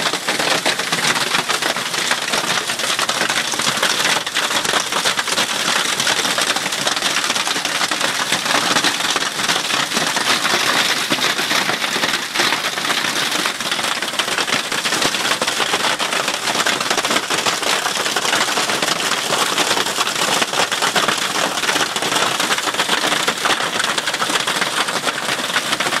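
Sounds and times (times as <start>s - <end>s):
hail and heavy rain pelting: 0.0s - 26.0s.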